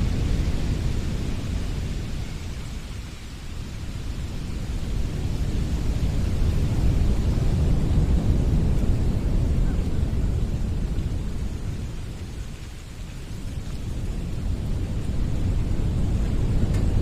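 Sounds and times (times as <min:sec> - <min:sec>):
wind blowing in gusts: 0:00.0 - 0:17.0.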